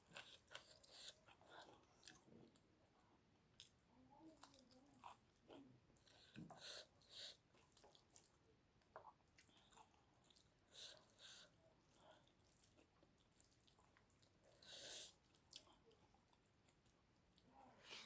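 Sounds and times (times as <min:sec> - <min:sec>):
person chewing: 0:00.0 - 0:02.6, 0:04.4 - 0:17.0.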